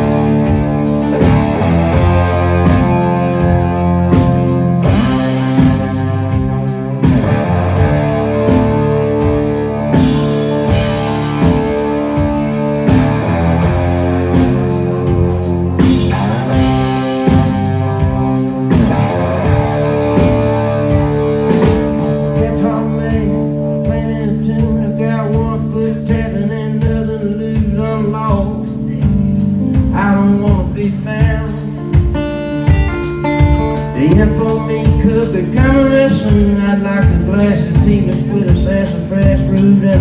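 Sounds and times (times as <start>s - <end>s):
bending lead guitar notes: 0.0s - 40.0s
live country rock band: 0.0s - 40.0s.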